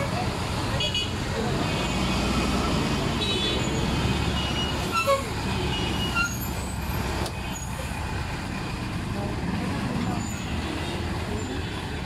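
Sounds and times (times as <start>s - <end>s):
low traffic rumble: 0.0s - 12.0s
motorbikes: 0.0s - 12.0s.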